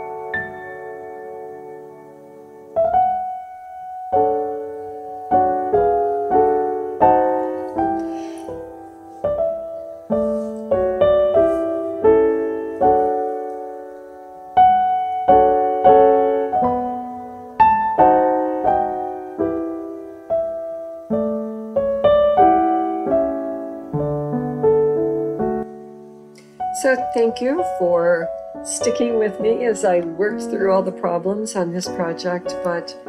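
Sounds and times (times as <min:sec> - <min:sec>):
slow solo piano music: 0:00.0 - 0:33.0.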